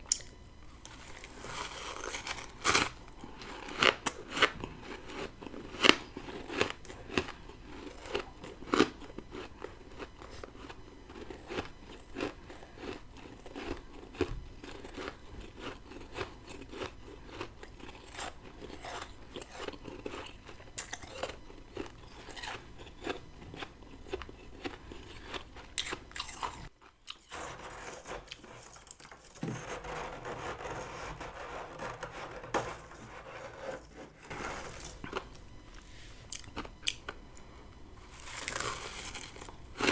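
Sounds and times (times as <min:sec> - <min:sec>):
chewing crunchy frost: 0:00.0 - 0:29.4, 0:32.9 - 0:39.9.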